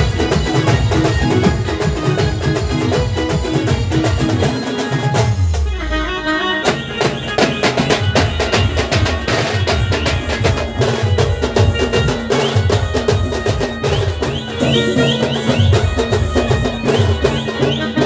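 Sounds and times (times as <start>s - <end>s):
fast steady drumming: 0.0s - 18.0s
held melody line: 0.0s - 18.0s.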